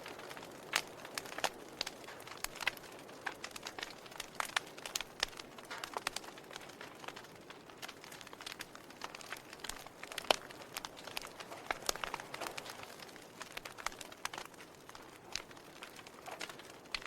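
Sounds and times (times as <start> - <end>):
firewood crackling and popping: 0.0 - 17.0
soft fire hiss: 0.0 - 17.0.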